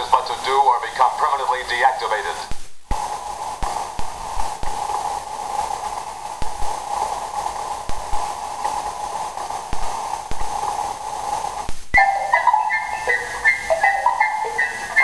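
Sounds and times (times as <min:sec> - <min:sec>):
wavering electronic hum: 0:00.0 - 0:15.0.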